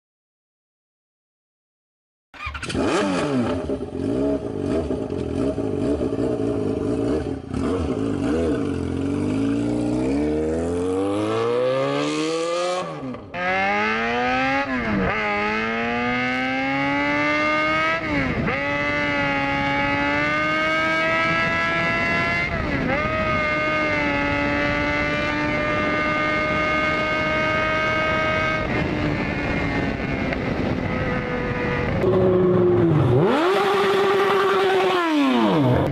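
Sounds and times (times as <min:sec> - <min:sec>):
motorcycle engine accelerating: 0:02.4 - 0:35.9.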